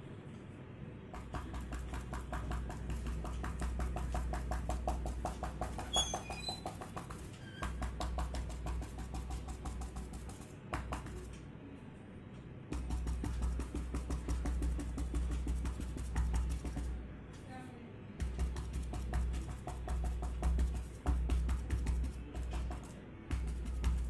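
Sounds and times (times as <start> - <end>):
paintbrush dabbing on paper: 1.1 - 11.4, 12.7 - 17.2, 18.2 - 24.0.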